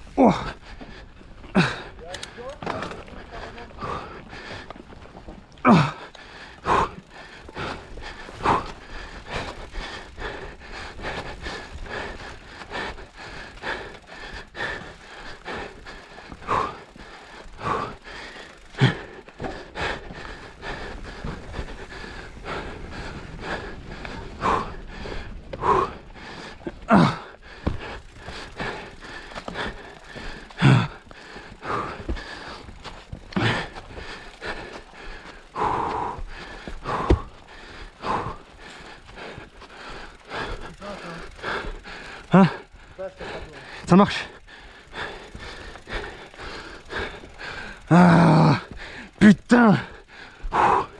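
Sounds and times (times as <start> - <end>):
bike rattling over rough ground: 0.0 - 50.9
person panting: 0.0 - 50.9.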